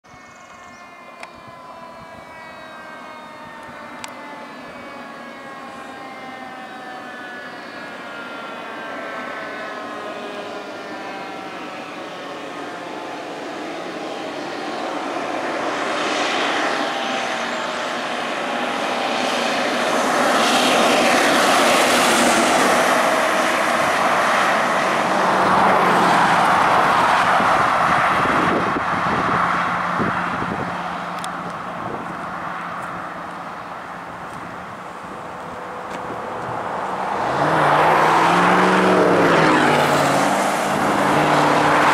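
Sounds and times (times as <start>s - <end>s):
fire engine siren: 0.0s - 41.9s
truck engine and road noise: 0.1s - 41.9s.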